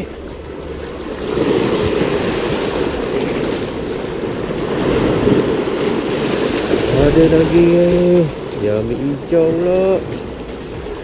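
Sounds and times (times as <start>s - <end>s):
surf washing against shore: 0.0s - 11.0s
wind buffeting microphone: 0.0s - 11.0s.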